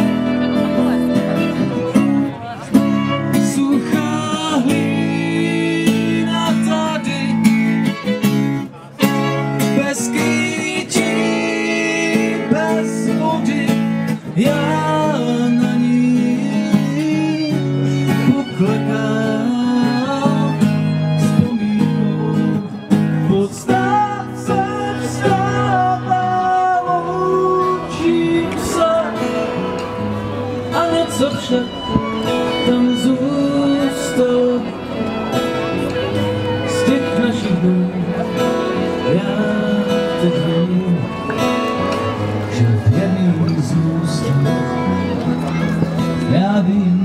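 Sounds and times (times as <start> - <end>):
acoustic guitar accompaniment: 0.0 - 47.0.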